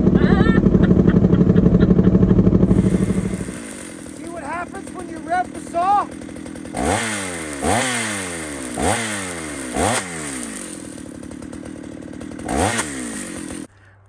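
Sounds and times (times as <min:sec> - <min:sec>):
chainsaw engine revving: 0:00.0 - 0:13.7.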